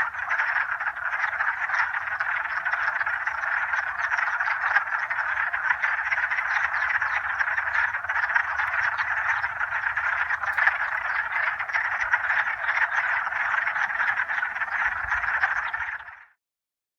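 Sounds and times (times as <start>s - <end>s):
chorus of frogs calling: 0.0s - 16.4s.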